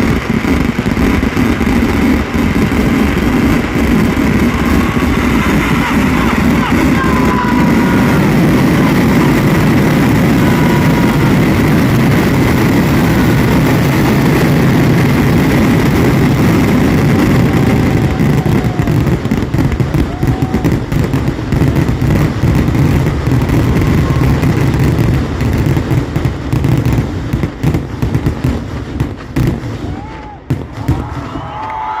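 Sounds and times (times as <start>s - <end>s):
fireworks explosions: 0.0s - 32.0s.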